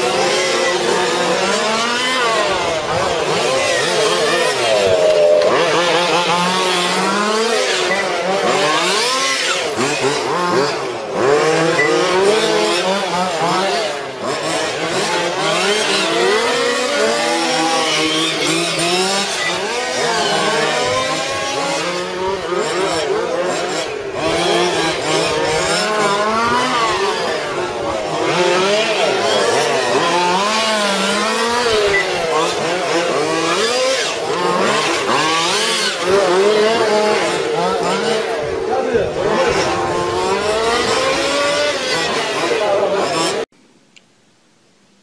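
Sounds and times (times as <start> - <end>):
rc car motors revving: 0.0 - 43.4.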